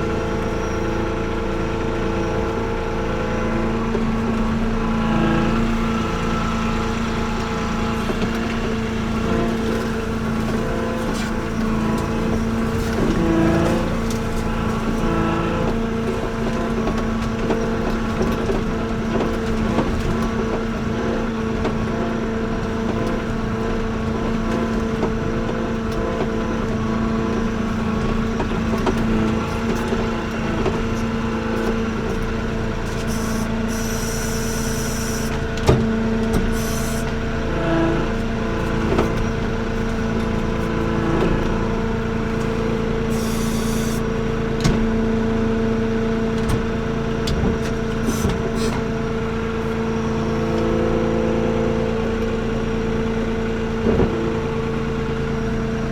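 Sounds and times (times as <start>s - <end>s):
loader engine running: 0.0s - 55.9s.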